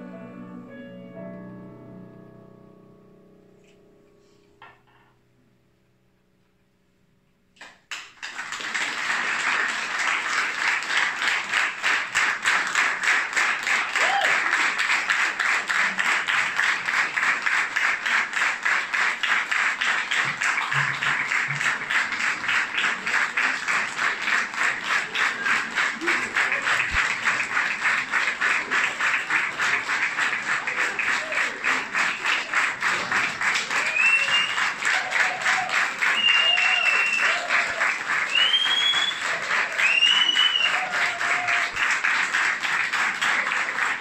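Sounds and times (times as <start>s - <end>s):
audience applause: 7.6s - 44.0s
clapping in unison: 7.6s - 44.0s.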